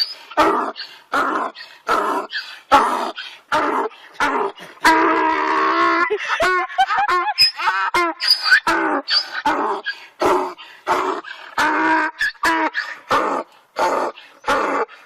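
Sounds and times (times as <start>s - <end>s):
animal calling: 0.0s - 14.9s.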